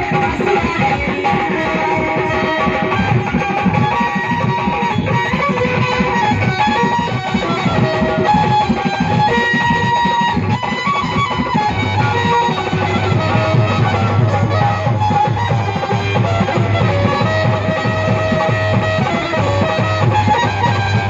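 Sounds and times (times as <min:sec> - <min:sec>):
plucked-string melody: 0:00.0 - 0:21.0
quick rhythm accompaniment: 0:00.0 - 0:21.0.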